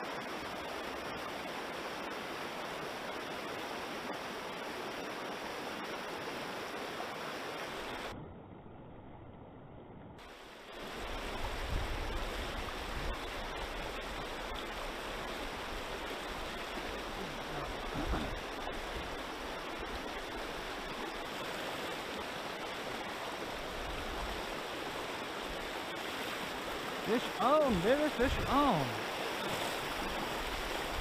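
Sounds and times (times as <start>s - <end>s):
river water rushing: 0.0s - 8.2s, 10.2s - 31.0s.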